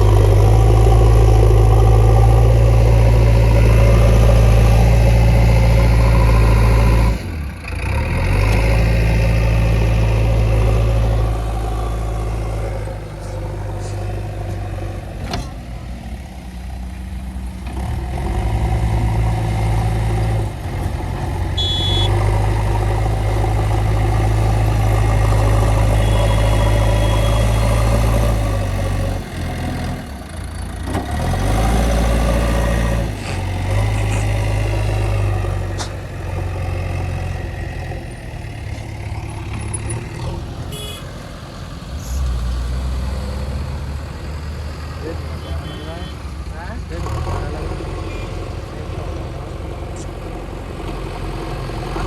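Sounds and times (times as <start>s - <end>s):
heavy diesel engine running hard: 0.0s - 52.0s.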